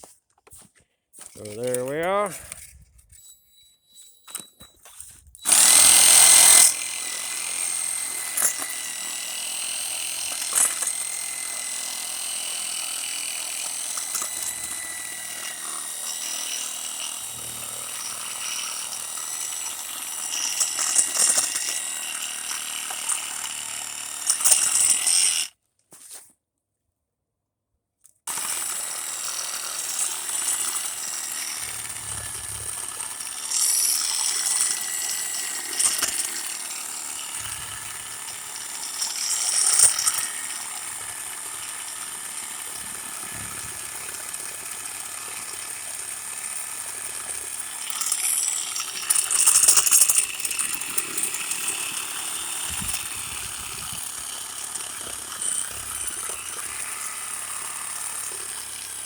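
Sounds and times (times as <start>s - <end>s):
reciprocating saw cutting wood: 5.4s - 25.5s, 28.3s - 59.0s.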